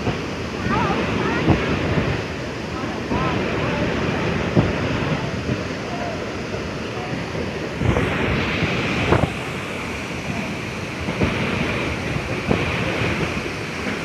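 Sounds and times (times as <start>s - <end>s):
floodwater rushing: 0.0s - 14.0s
wind buffeting microphone: 0.0s - 14.0s.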